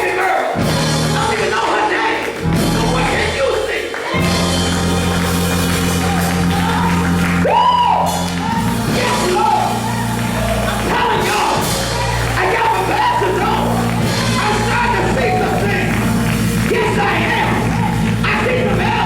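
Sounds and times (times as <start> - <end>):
gospel singing: 0.0 - 19.0
sustained low chords: 2.4 - 3.4, 4.2 - 19.0.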